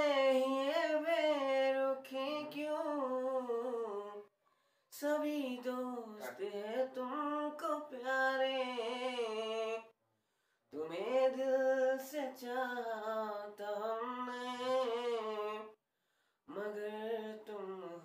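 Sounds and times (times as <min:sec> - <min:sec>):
man singing unaccompanied: 0:00.0 - 0:04.3, 0:04.9 - 0:09.9, 0:10.7 - 0:15.8, 0:16.5 - 0:18.0.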